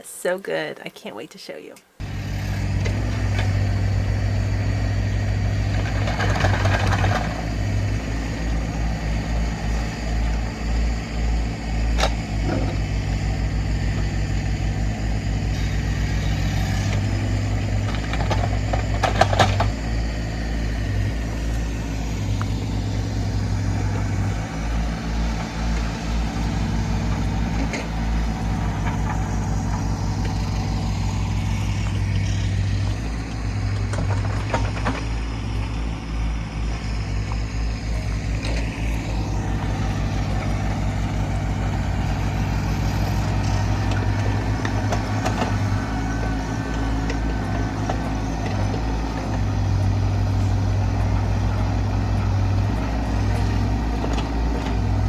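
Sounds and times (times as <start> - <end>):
heavy engine running with low throb: 2.0 - 55.0.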